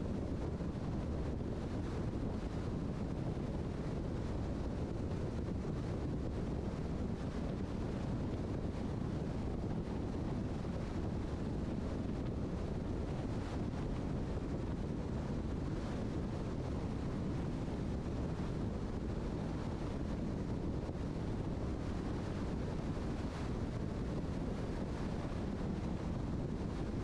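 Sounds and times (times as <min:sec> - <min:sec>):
car road and wind rumble: 0:00.0 - 0:27.0.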